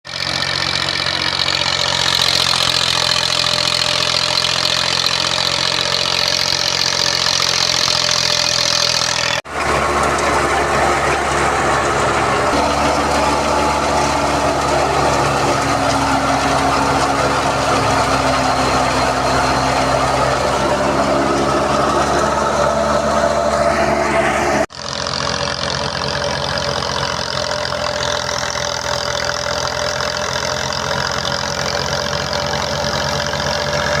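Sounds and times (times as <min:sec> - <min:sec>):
thresher machine drone: 0:00.1 - 0:34.0.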